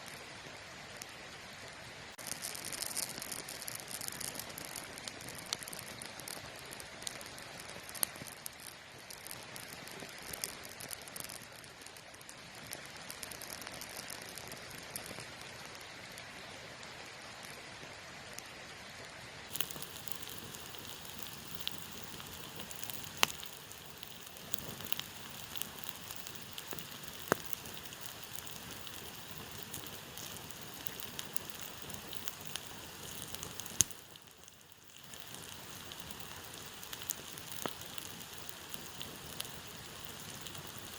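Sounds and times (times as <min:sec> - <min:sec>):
campfire crackling and popping: 0:02.2 - 0:16.3, 0:19.5 - 0:40.9.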